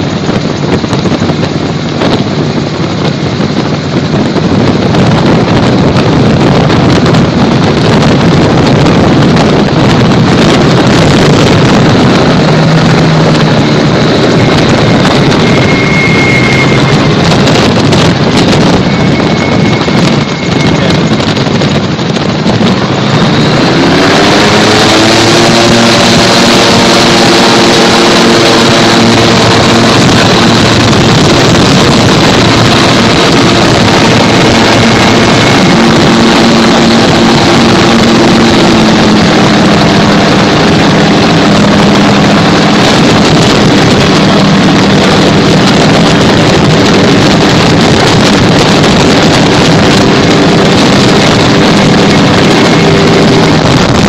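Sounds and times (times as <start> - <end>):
gyrocopter engine and propeller: 0.0 - 54.0
wind on microphone: 0.0 - 54.0.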